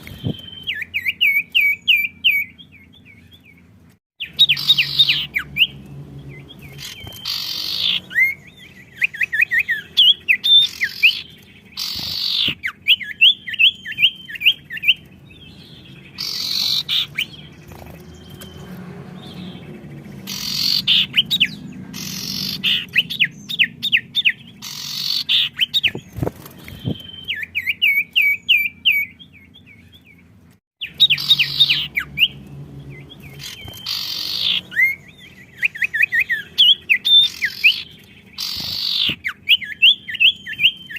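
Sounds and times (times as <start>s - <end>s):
cage songbirds singing: 0.0s - 40.9s.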